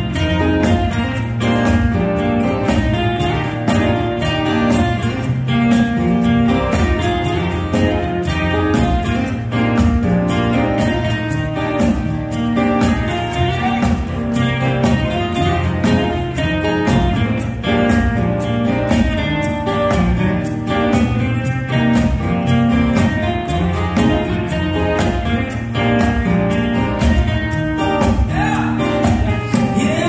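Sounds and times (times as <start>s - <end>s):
acoustic guitars strummed and picked: 0.0s - 30.0s.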